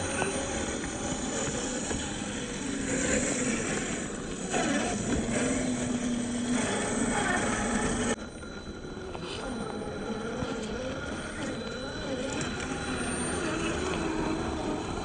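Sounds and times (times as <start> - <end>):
toy truck motor whining: 0.0 - 15.0.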